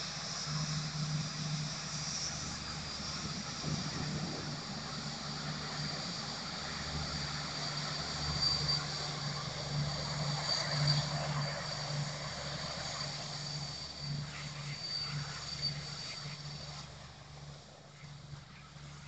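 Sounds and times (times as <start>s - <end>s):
high engine whine: 0.0s - 19.0s
jet engines running: 0.0s - 19.0s.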